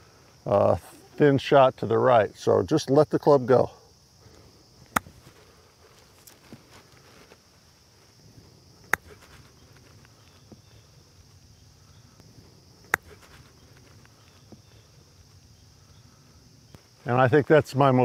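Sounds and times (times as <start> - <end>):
faint steady background noise: 0.0 - 18.0.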